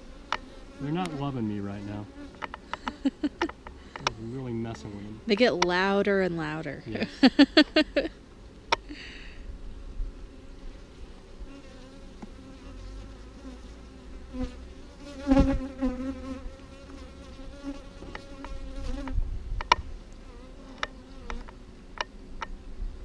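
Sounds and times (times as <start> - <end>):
close wavering bee buzz: 0.0 - 5.4, 9.0 - 23.0
bees buzzing: 0.0 - 19.2.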